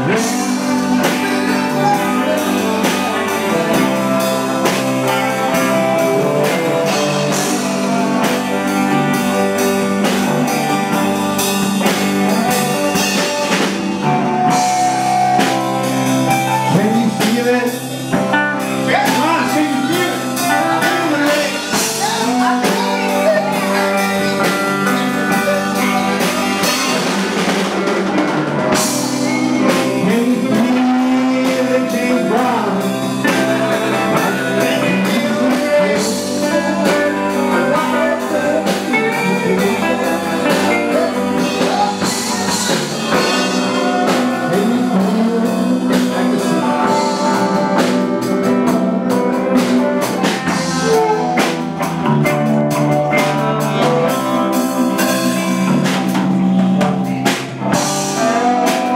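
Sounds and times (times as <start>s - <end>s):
live blues band playing: 0.0s - 58.9s.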